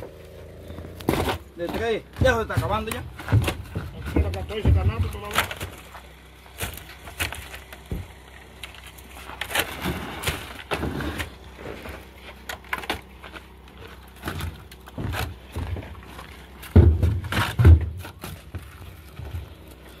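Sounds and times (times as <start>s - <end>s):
plastic crates knocking and clattering: 1.0s - 8.3s, 9.3s - 19.7s.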